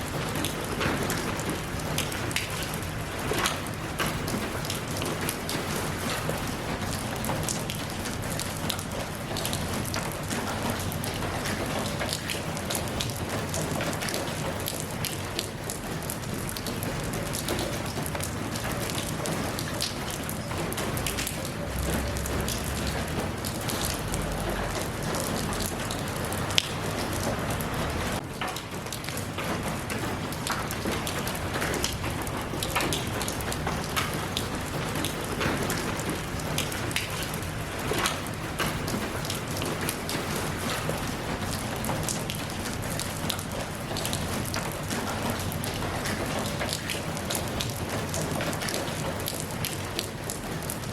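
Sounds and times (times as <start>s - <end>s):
sharp water drips: 0.0s - 50.9s
steady rain falling: 0.0s - 50.9s.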